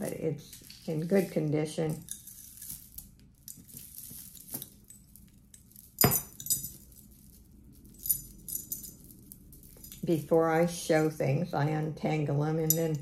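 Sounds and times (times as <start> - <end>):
necklace beads clinking and jangling: 0.0 - 11.8, 12.5 - 13.0.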